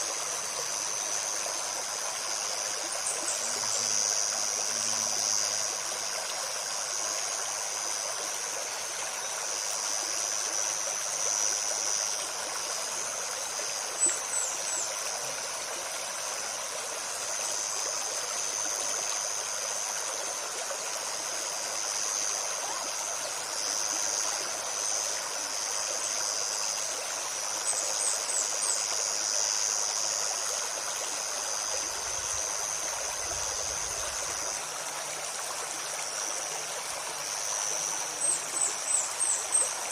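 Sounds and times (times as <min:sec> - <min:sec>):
insects droning: 0:00.0 - 0:39.9
stream babbling: 0:00.0 - 0:39.9.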